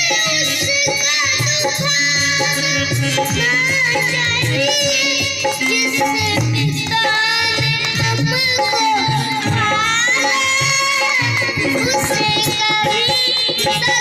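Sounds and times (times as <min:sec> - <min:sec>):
boy singing through microphone: 0:00.0 - 0:14.0
folk percussion: 0:00.0 - 0:14.0.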